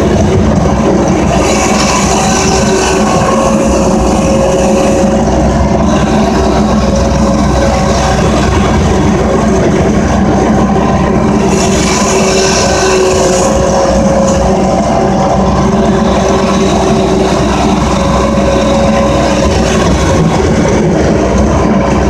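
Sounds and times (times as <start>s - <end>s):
loader engine running loud: 0.0s - 22.0s.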